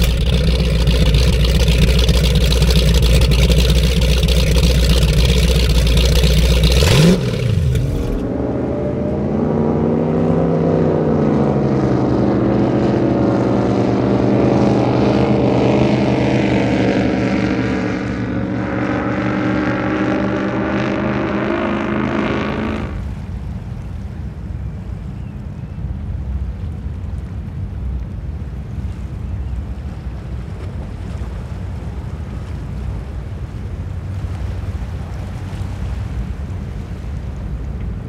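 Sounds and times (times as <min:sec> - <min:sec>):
water churning: 0:00.0 - 0:24.6, 0:29.7 - 0:38.0
powerboat engines: 0:00.0 - 0:38.0.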